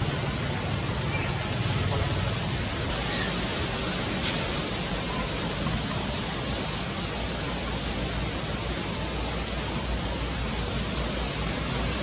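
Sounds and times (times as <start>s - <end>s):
outdoor rushing background noise: 0.0s - 12.0s.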